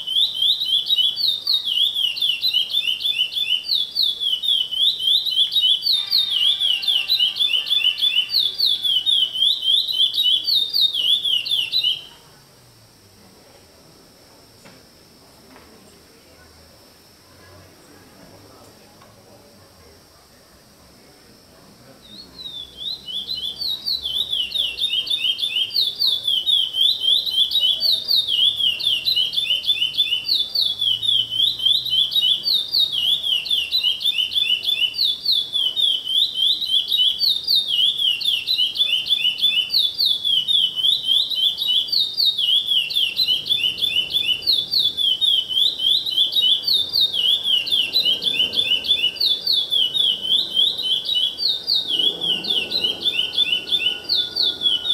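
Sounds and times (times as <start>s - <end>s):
songbird singing: 0.0s - 12.3s, 21.9s - 54.9s.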